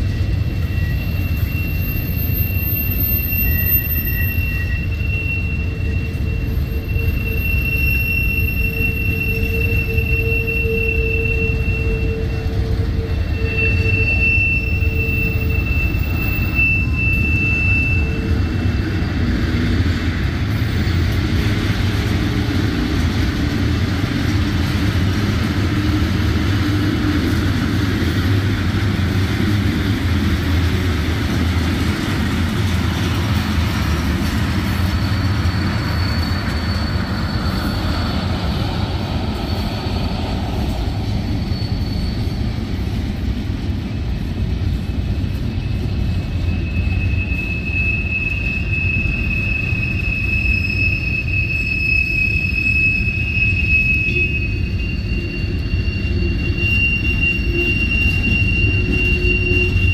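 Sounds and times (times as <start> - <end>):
high wheel squeal: 0.0 - 59.9
train wheels rumbling on rails: 0.0 - 59.9.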